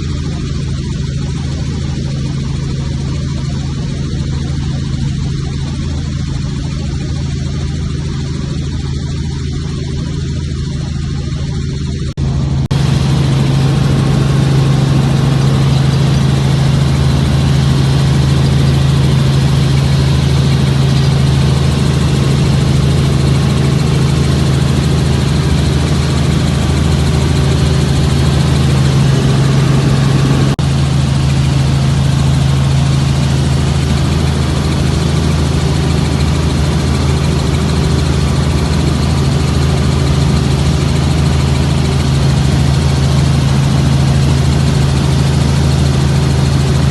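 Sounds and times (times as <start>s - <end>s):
helicopter engine and rotor: 0.0s - 46.9s.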